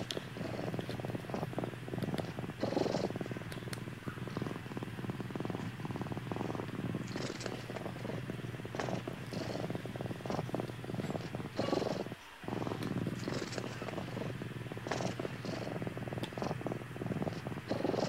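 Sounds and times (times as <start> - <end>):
cat purring loudly: 0.0 - 18.0.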